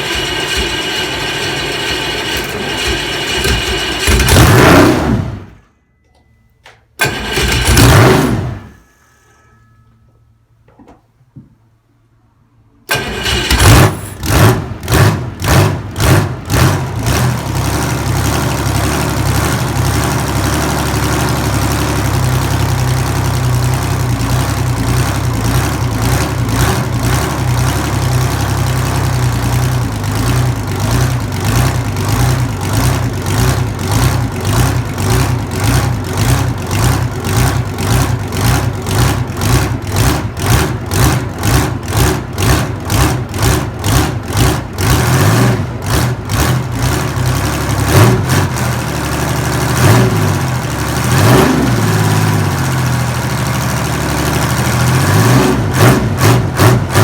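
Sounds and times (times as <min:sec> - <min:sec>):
diesel engine starting and running: 0:00.0 - 0:05.8, 0:06.6 - 0:09.0, 0:12.8 - 0:57.0.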